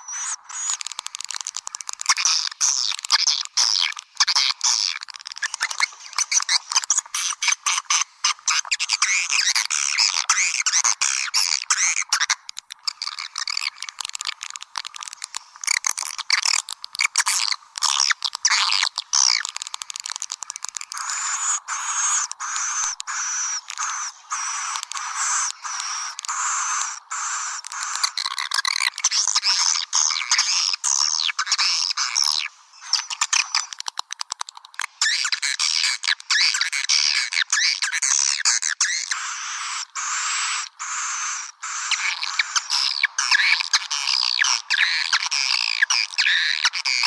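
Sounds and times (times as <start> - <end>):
swiftlet twittering calls: 0.0 - 33.8, 34.8 - 47.0.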